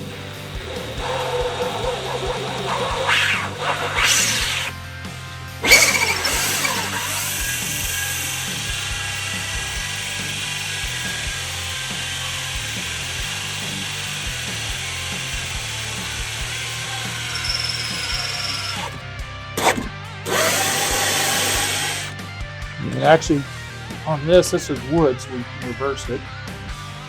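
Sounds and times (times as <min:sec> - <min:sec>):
power drill grinding through wood: 0:00.0 - 0:22.2.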